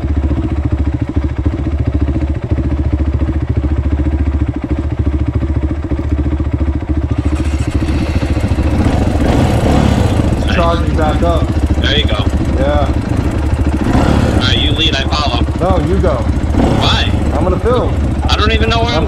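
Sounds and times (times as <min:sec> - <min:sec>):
dirt bike engine idling: 0:00.0 - 0:19.0.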